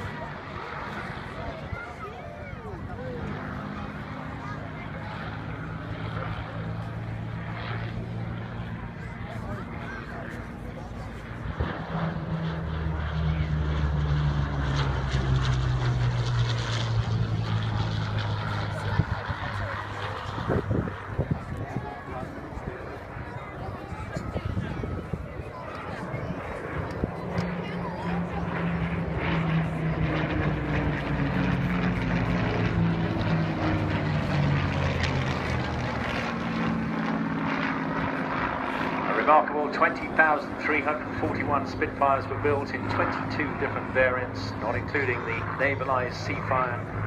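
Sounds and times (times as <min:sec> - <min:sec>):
aircraft engine droning: 0:00.0 - 0:47.0.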